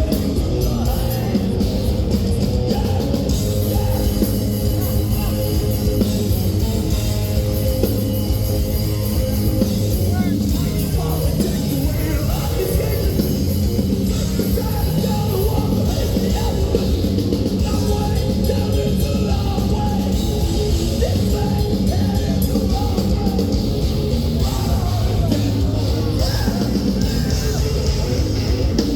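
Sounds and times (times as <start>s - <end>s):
distorted guitars and bass: 0.0s - 28.9s
fast dense drumming: 0.0s - 28.9s
vocals: 0.0s - 28.9s.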